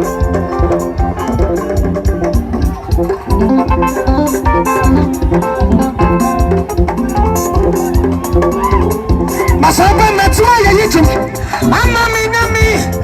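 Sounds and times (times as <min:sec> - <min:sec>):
instrumental band music: 0:00.0 - 0:13.0.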